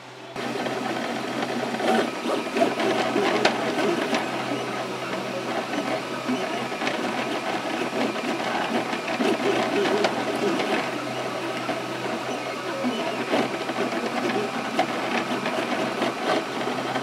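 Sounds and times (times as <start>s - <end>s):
stepper motors whirring: 0.3s - 17.0s.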